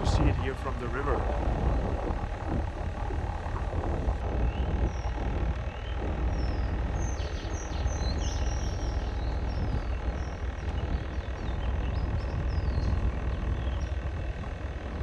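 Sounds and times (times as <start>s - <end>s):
birds chirping: 0.0s - 15.0s
boat engine rumbling: 0.0s - 15.0s.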